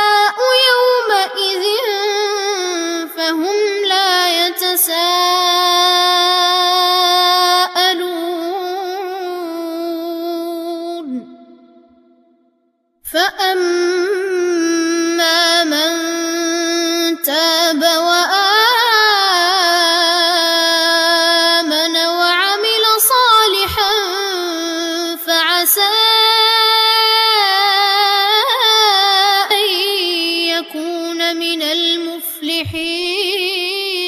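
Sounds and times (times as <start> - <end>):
boy chanting recitation: 0.0 - 11.6, 13.1 - 34.0.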